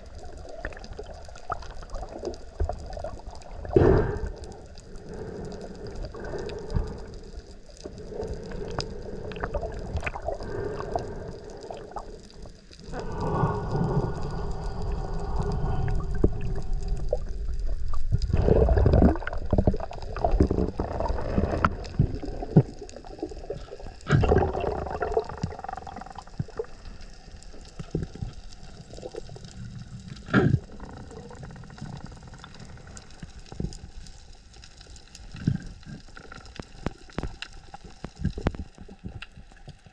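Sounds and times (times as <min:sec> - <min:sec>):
water rushing and gurgling: 0:00.0 - 0:34.0.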